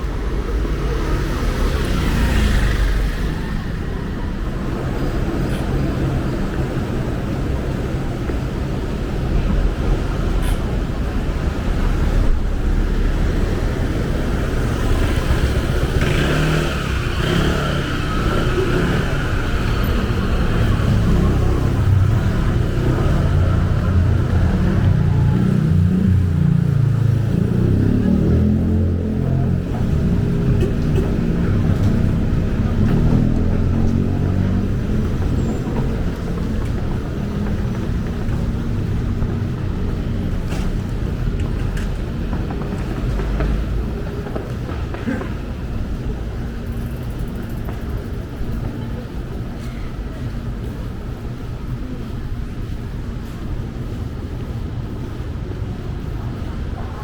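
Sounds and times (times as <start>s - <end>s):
low vehicle rumble: 0.0s - 57.0s.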